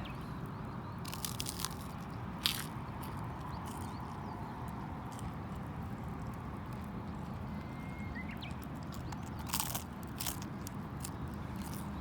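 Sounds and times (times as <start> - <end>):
person chewing crunchy food: 1.0 - 7.4, 8.5 - 12.0.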